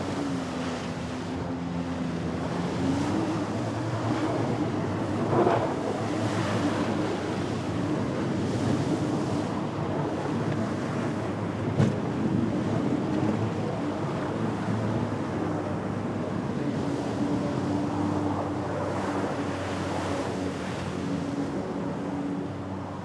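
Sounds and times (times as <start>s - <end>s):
jet ski engine running: 0.0s - 23.0s.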